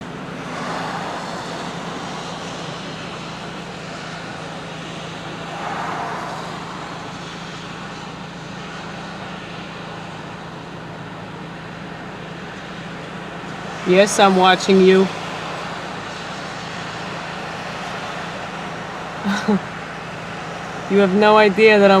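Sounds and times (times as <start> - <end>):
steady low hum: 0.0 - 21.9
vehicles passing: 0.0 - 22.0.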